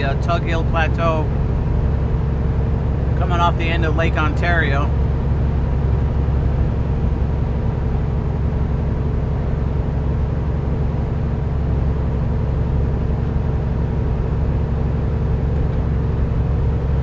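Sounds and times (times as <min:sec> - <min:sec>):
road noise: 0:00.0 - 0:17.0
truck diesel engine drone: 0:00.0 - 0:17.0.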